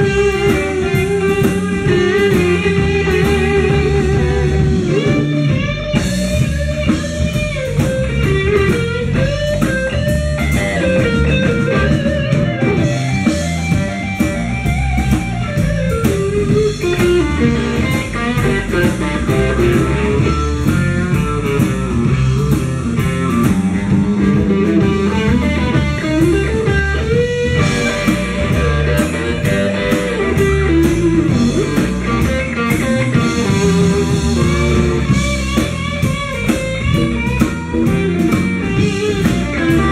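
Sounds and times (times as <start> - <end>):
electric guitar lead: 0.0 - 39.9
live blues band playing: 0.0 - 39.9.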